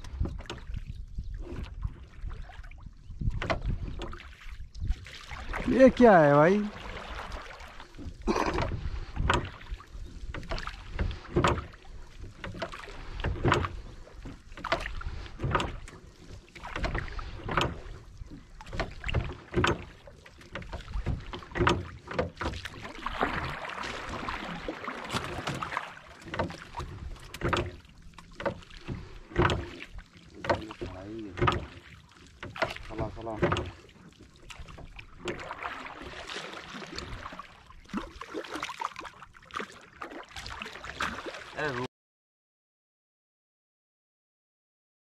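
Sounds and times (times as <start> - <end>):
oar knocking against wooden hull: 0.0 - 2.4, 3.2 - 41.4.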